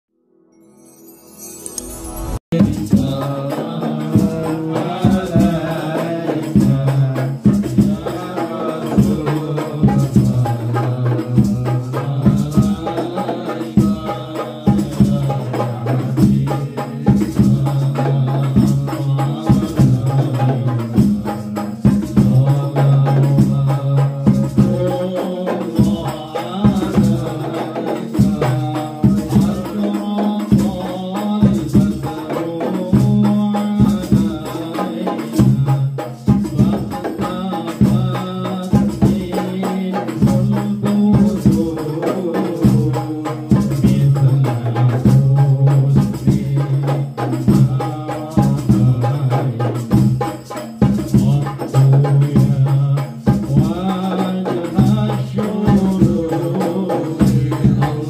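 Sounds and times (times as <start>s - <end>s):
jingling tambourines: 0.7s - 58.0s
frame drums: 1.6s - 58.0s
man singing into a microphone: 2.5s - 58.0s.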